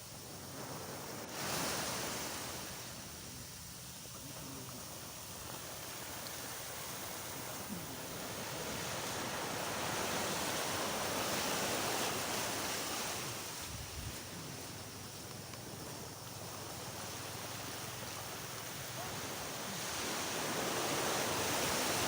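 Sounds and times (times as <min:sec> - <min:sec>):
sea waves washing onto beach: 0:00.0 - 0:22.0.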